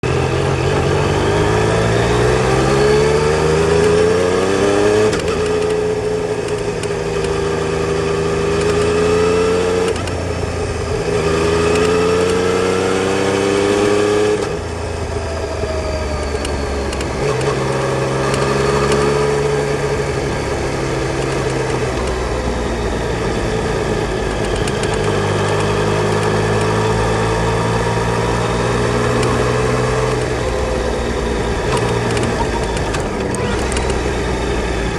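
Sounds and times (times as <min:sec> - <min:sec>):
motorcycle engine changing gear: 0:00.1 - 0:34.9.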